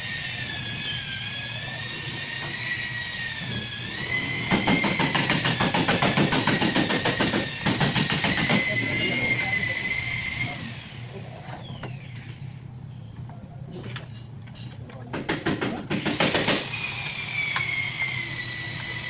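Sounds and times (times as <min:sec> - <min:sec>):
motor whining and clicking: 0:00.0 - 0:12.4, 0:15.6 - 0:19.0.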